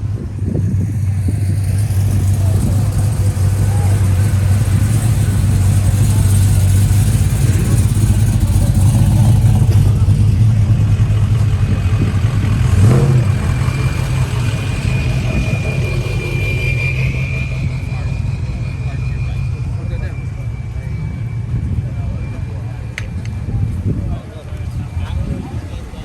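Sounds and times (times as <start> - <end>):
car engine rumbling and revving: 0.0 - 26.0.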